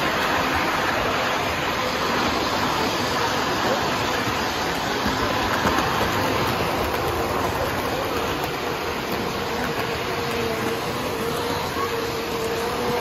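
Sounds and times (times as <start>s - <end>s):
toy train wheels and motor rumble: 0.0s - 13.0s.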